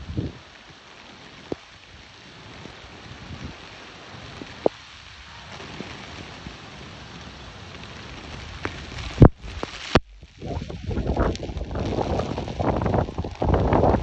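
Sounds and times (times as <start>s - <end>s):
heavy rain on a flooded street: 0.0s - 14.0s
rough gusty noise: 2.4s - 14.0s.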